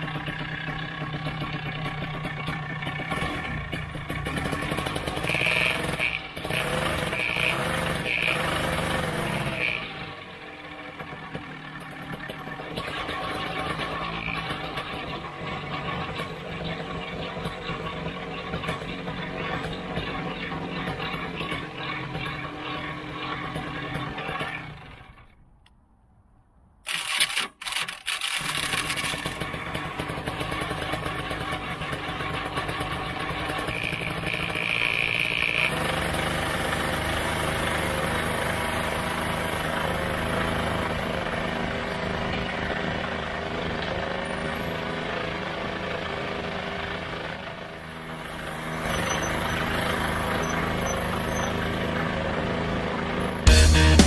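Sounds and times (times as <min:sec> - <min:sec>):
engine starting and running: 0:00.0 - 0:25.8, 0:26.8 - 0:54.0.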